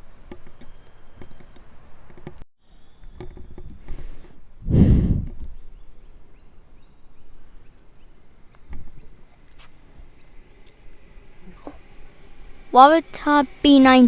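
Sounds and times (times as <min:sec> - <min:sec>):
faint high chirping: 0:02.7 - 0:14.0.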